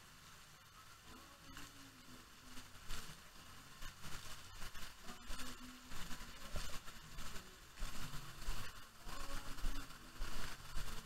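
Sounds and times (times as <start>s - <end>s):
water spraying and splashing: 0.0s - 11.0s.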